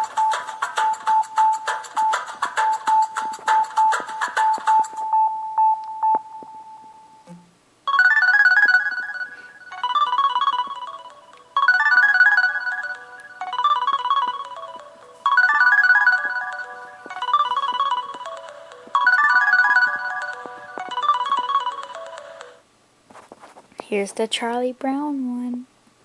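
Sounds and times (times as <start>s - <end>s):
polyphonic electronic ringtone: 0.0s - 22.6s.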